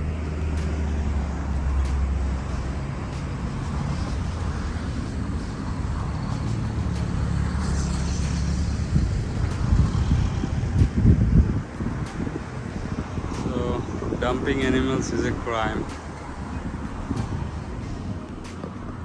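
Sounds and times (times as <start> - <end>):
traffic hiss: 0.0 - 19.0
vehicle engine humming: 0.0 - 19.0.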